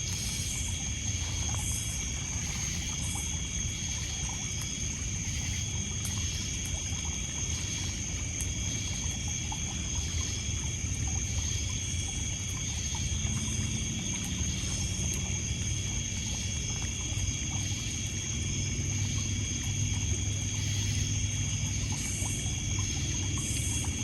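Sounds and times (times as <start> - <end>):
crickets and insects chirping: 0.0 - 24.0
water lapping on pebbles: 0.0 - 24.0.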